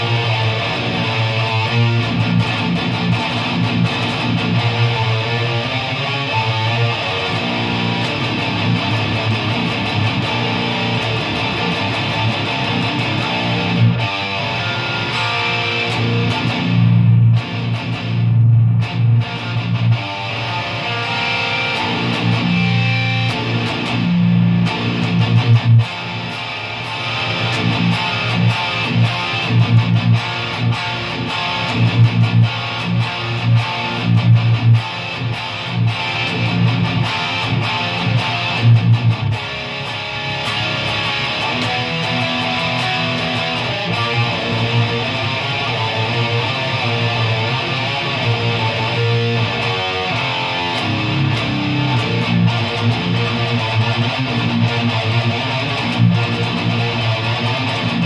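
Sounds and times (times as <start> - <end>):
distorted electric guitar riffs: 0.0 - 58.0.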